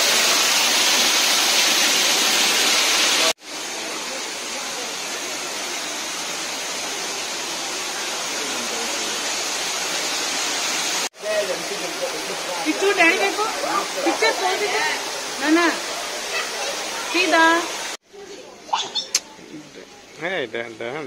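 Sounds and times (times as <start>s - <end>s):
rush of falling water: 0.0s - 21.0s.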